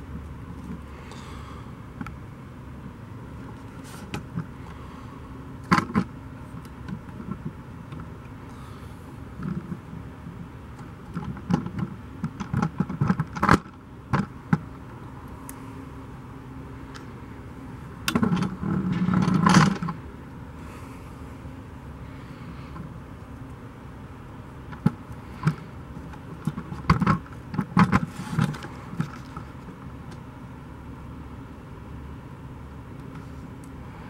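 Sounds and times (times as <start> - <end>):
low engine hum: 0.0 - 34.0.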